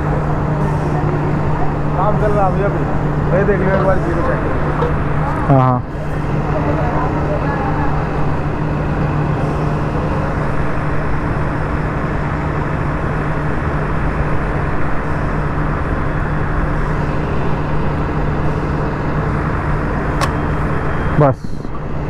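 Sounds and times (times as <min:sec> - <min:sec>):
fuel pump humming: 0:00.0 - 0:22.0.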